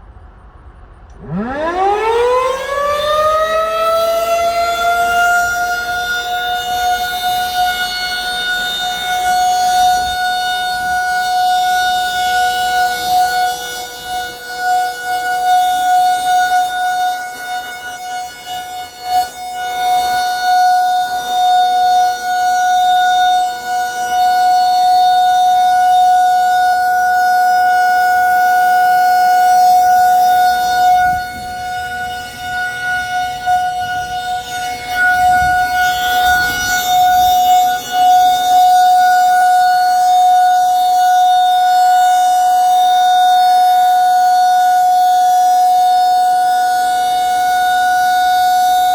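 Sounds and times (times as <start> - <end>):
rotating warning siren: 0.1 - 48.9.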